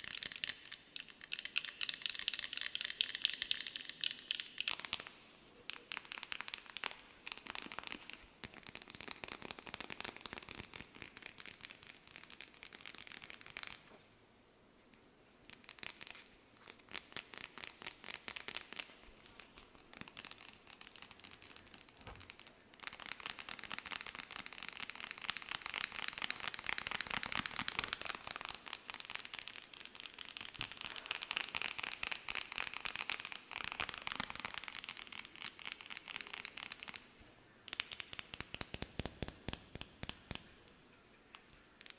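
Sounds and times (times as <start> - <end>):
crackly tapping and scratching: 0.0 - 14.1, 14.9 - 41.9.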